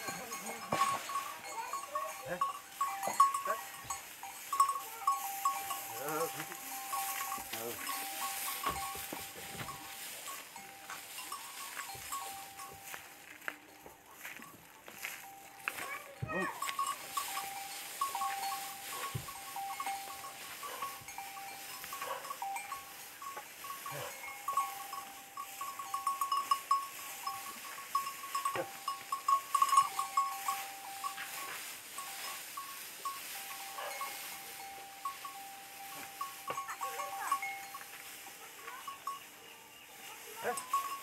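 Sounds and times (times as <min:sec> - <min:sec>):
animal bells tinkling: 0:00.0 - 0:41.0.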